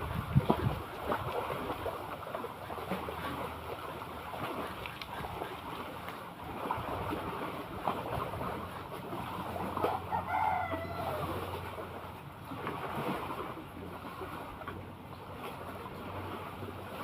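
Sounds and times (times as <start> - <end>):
seawater lapping and splashing: 0.0 - 17.0.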